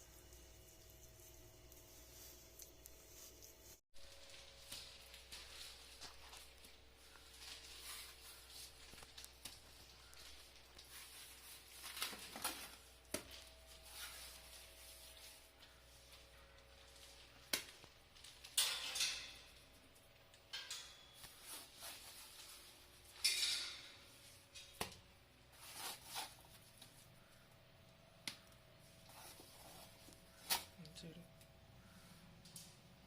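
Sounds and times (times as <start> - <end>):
scraping and rustling: 0.0 - 24.8, 25.4 - 27.2.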